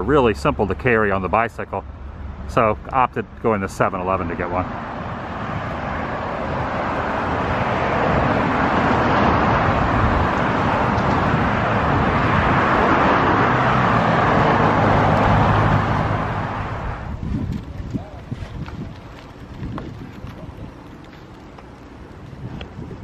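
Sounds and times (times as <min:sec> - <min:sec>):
cars rushing by: 0:00.0 - 0:23.0.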